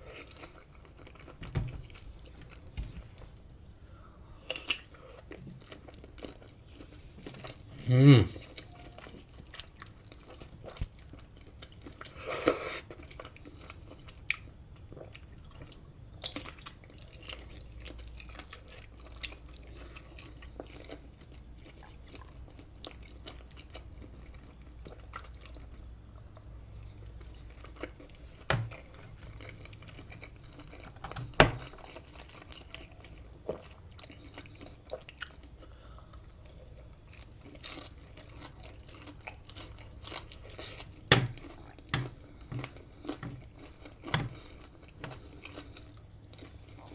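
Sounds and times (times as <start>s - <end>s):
chewing and crunching food: 0.0s - 3.4s, 4.0s - 46.9s.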